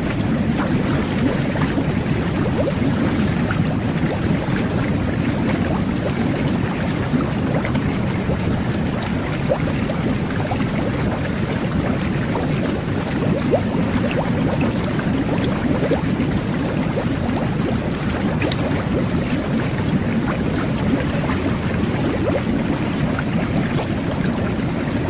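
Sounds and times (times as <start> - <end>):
whirlpool bath water churning: 0.0 - 25.0.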